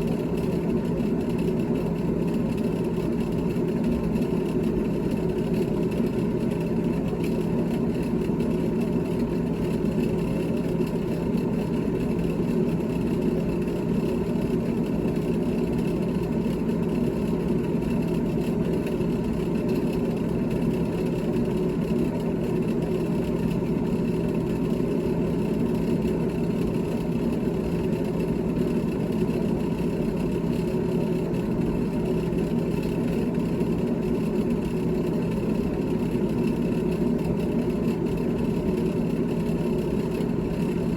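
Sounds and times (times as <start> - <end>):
refrigerator humming: 0.0 - 40.9.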